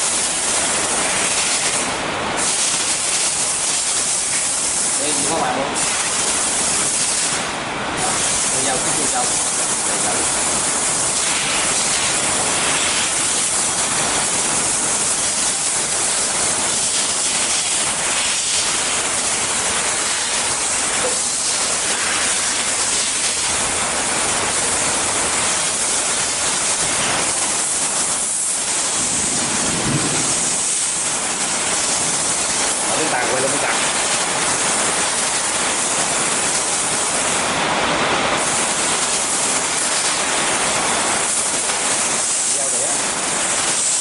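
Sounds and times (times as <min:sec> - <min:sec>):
machinery hiss: 0:00.0 - 0:44.0.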